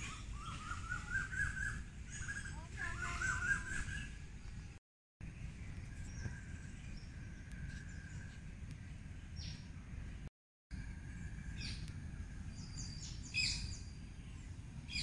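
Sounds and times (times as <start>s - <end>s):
small birds chirping: 0.0s - 10.3s, 11.2s - 15.0s.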